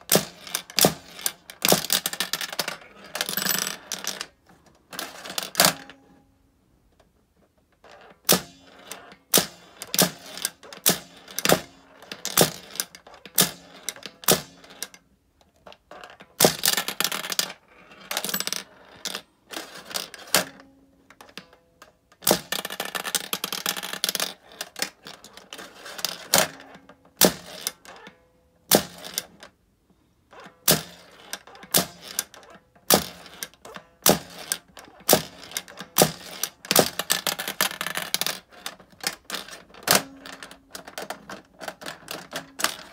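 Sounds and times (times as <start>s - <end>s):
balls clicking and rattling in pachinko toy: 0.1s - 5.9s, 8.3s - 15.0s, 16.4s - 20.6s, 22.2s - 28.1s, 28.7s - 29.4s, 30.4s - 42.9s.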